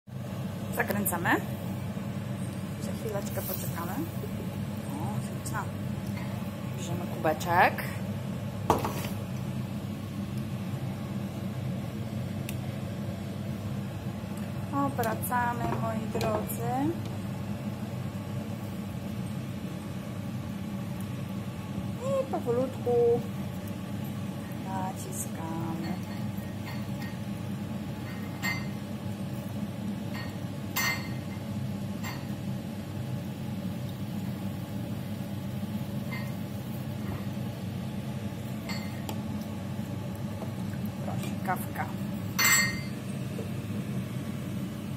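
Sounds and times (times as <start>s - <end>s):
steady low hum: 0.1s - 44.9s.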